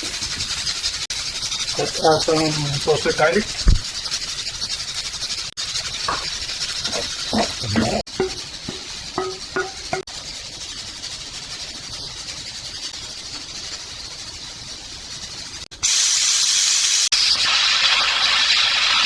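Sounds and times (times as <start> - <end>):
rice sizzling in a pan: 0.0 - 19.0.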